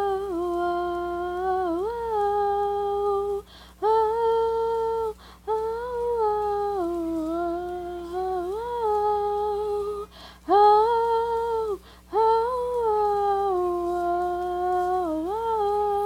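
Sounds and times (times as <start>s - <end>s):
solo voice singing: 0.0s - 16.0s.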